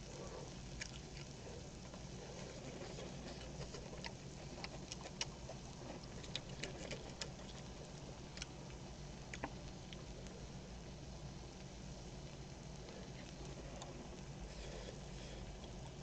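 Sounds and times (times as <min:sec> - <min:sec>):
quiet chewing: 0:00.0 - 0:16.0.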